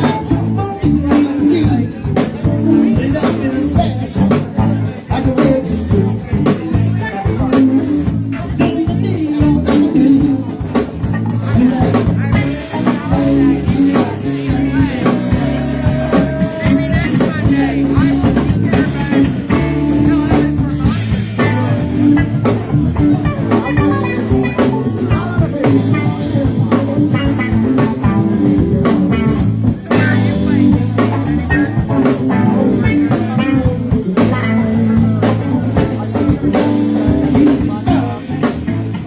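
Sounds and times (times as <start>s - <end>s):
bass guitar: 0.0s - 39.0s
drum kit: 0.0s - 39.0s.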